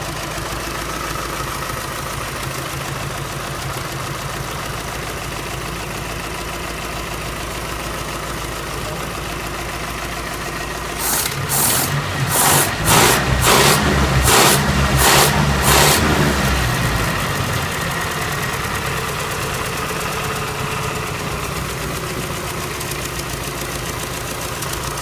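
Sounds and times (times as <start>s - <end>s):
engine idling and revving: 0.0s - 25.0s.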